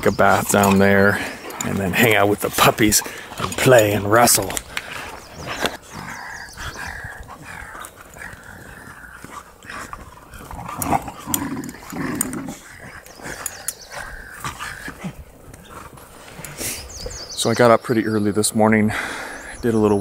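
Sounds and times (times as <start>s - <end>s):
puppies growling: 0.2s - 17.2s.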